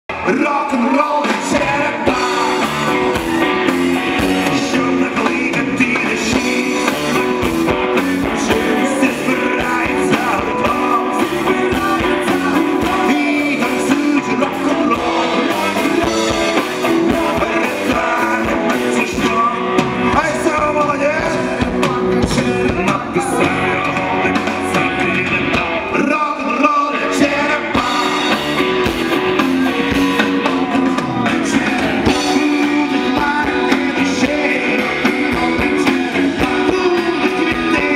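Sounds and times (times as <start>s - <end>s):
live rock band playing: 0.1s - 37.9s
person singing: 0.1s - 37.9s.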